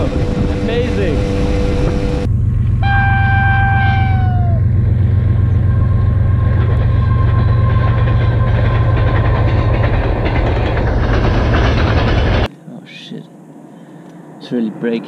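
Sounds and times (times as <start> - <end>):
wind noise: 0.0 - 12.5
freight train passing: 0.0 - 15.0.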